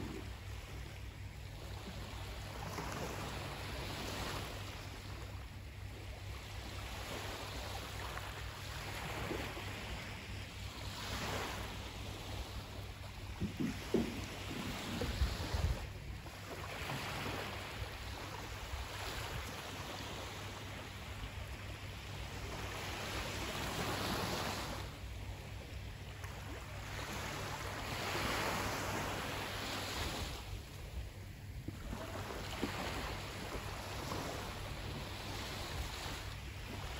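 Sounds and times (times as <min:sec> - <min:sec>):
sea waves washing ashore: 0:00.0 - 0:36.9.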